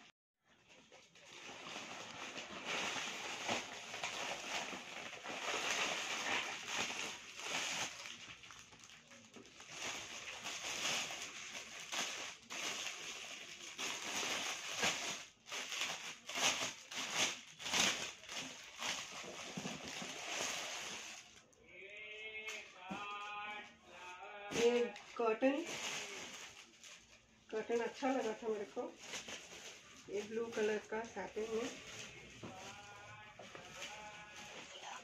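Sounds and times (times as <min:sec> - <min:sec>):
plastic bag crinkling: 0:00.5 - 0:21.6, 0:24.5 - 0:35.0.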